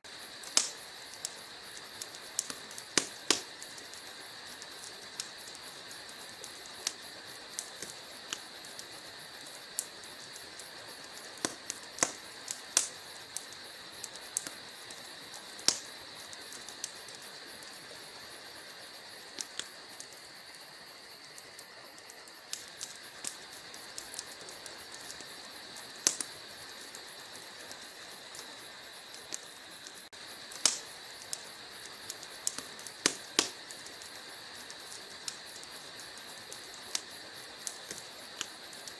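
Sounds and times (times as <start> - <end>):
steady fire hiss: 0.0 - 38.9
fire pops: 0.1 - 38.9
logs crackling in fireplace: 0.1 - 38.9.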